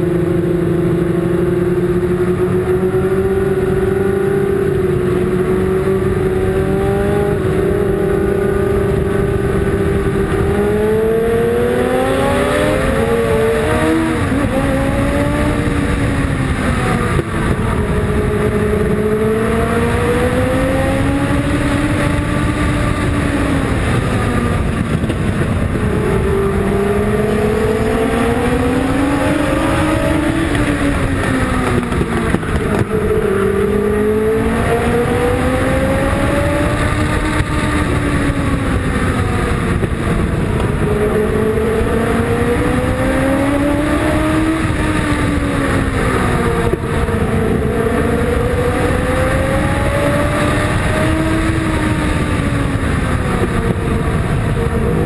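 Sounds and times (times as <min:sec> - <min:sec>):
race car engine: 0:00.0 - 0:55.0
road and air noise: 0:00.0 - 0:55.0.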